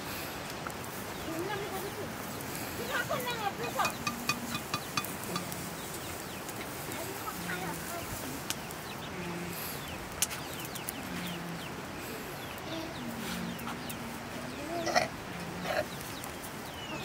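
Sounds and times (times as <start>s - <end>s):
chickens clucking: 0.5s - 17.0s
chicks peeping: 1.2s - 17.0s.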